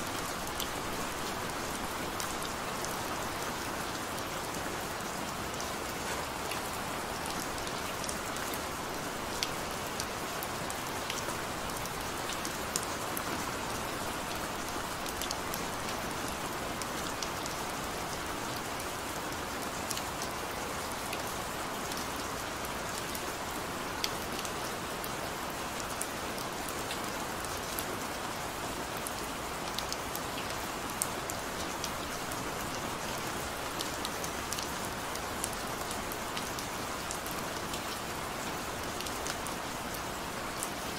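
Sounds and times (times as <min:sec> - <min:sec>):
gentle rain hiss: 0:00.0 - 0:40.9.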